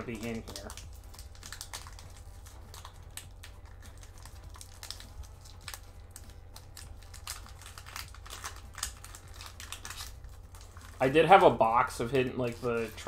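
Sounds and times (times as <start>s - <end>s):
foil wrapper crinkling: 0.0s - 13.0s
low steady hum: 0.0s - 13.0s.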